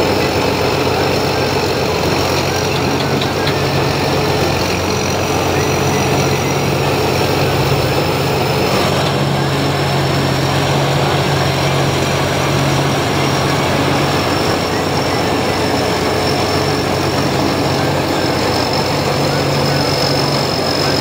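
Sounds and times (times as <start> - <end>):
combine harvester running: 0.0 - 21.0
high machinery whine: 0.0 - 21.0.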